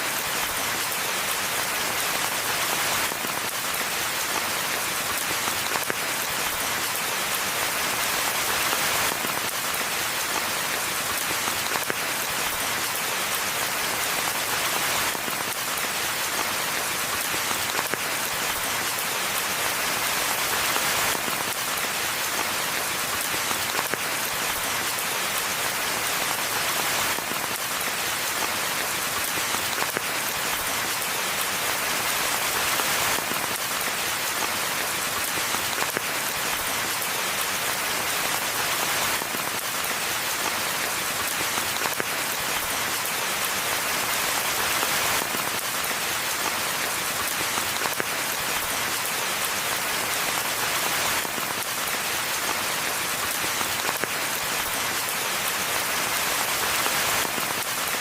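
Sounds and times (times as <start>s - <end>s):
rain falling in a forest: 0.0s - 58.0s.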